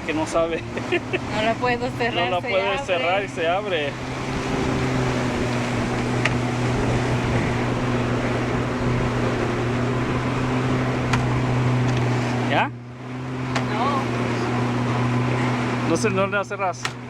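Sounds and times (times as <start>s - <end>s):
boat engine humming: 0.0s - 17.0s
water rushing: 0.0s - 17.0s.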